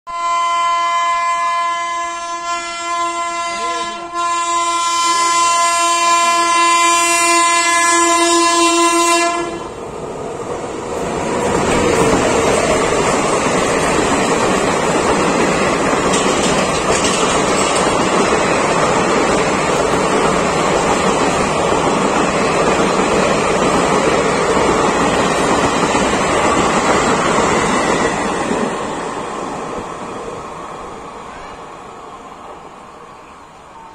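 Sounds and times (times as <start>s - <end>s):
train wheels rushing on rails: 3.5s - 33.9s.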